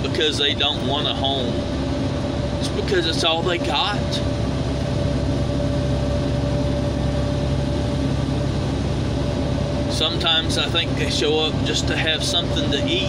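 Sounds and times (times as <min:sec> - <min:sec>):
faint steady whine: 0:00.0 - 0:13.0
truck engine and road noise: 0:00.0 - 0:13.0.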